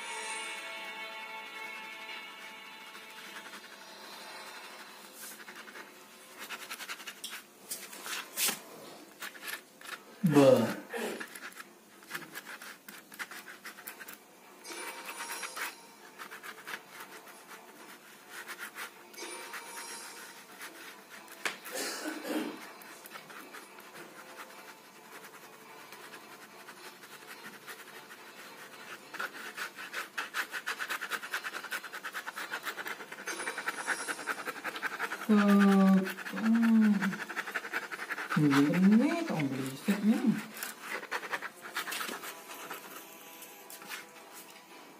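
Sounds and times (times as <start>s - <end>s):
pen scratching on carpet: 1.5s - 10.4s, 11.2s - 21.8s, 22.5s - 44.5s.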